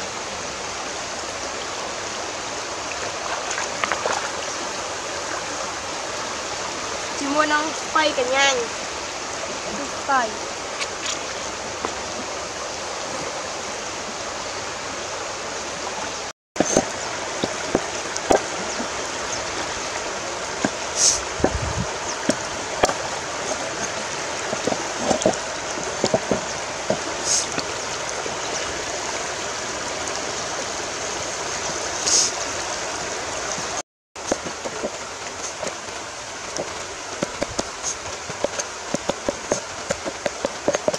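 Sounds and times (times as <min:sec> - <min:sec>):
rocky river rushing: 0:00.0 - 0:40.9.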